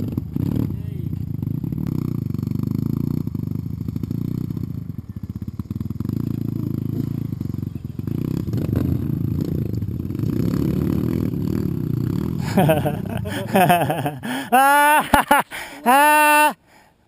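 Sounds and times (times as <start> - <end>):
dirt bike engine: 0.0 - 16.7.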